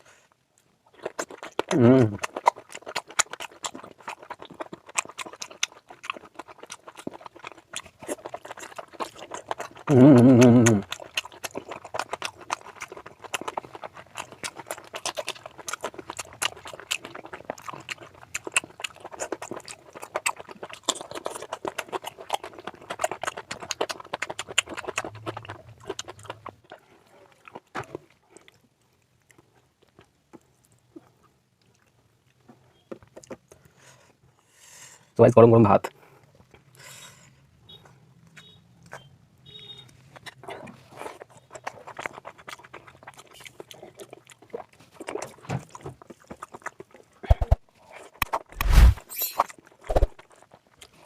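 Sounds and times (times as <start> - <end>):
close chewing mouth clicks: 0.6 - 33.9, 37.7 - 51.0.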